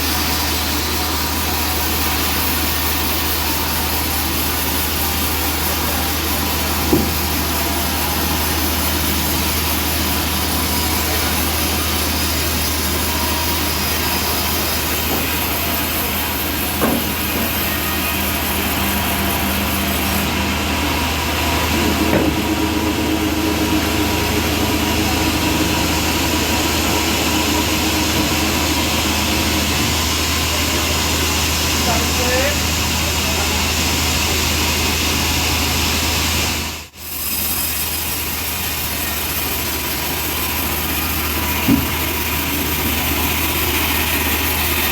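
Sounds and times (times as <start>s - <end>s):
band saw cutting log: 0.0s - 44.9s.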